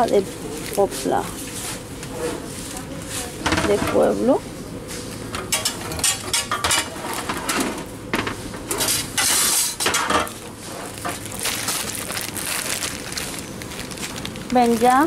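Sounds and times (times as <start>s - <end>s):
bread packages rustling and clinking: 0.0s - 4.3s, 5.0s - 15.0s.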